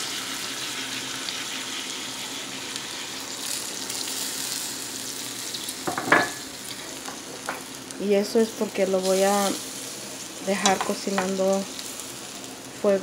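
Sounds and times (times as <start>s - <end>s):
food sizzling in a skillet: 0.0s - 13.0s.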